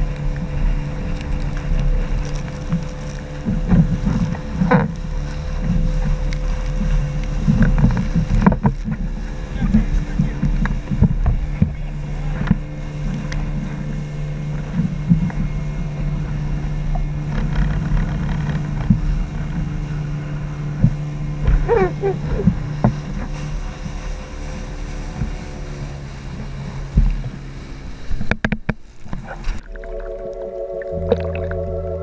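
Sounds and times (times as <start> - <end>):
hull thumping on waves: 0.0 - 32.0
motorboat engine running: 0.0 - 32.0.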